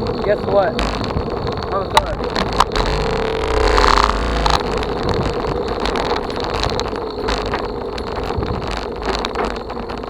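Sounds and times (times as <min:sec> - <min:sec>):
bicycle tyres rolling on trail: 0:00.0 - 0:10.0
wind buffeting microphone: 0:00.0 - 0:10.0.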